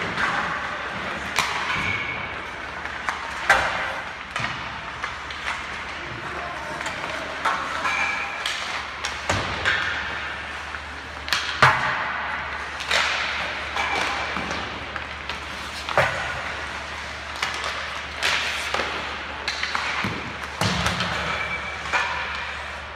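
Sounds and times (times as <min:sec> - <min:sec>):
hockey sticks hitting pucks: 0:00.0 - 0:22.9
pucks hitting boards: 0:00.0 - 0:22.9
skates scraping ice: 0:00.0 - 0:22.9.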